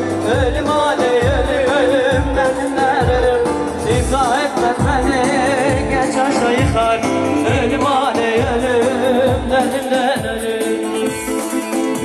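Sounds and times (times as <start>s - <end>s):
folk dance band music: 0.0s - 12.0s
person singing: 0.0s - 12.0s
low drum beat: 0.2s - 10.8s.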